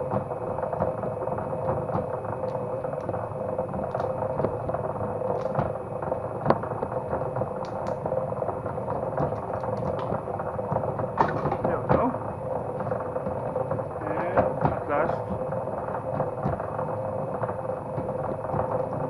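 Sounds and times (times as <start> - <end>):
machine motor humming: 0.0 - 19.0.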